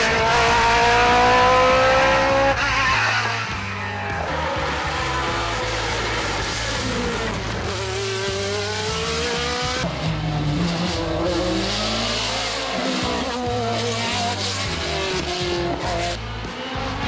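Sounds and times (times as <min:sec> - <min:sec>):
racing car engine accelerating: 0:00.0 - 0:17.0.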